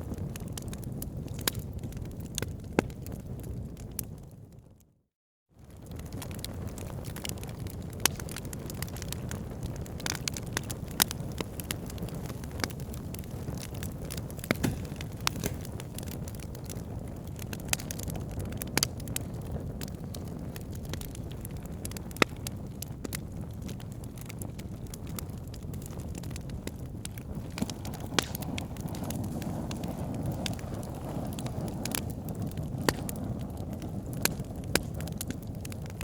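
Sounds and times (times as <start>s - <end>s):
fire crackling in a fireplace: 0.0s - 4.9s, 5.6s - 36.0s.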